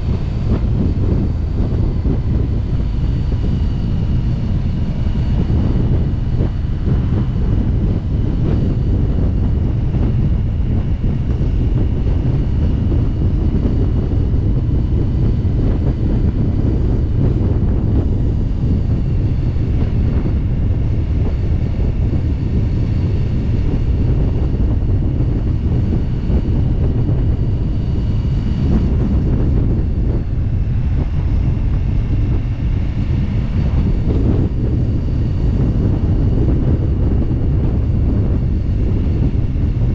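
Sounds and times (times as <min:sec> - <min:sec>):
motorcycle engine rumbling: 0:00.0 - 0:39.9
wind noise on microphone: 0:00.0 - 0:39.9.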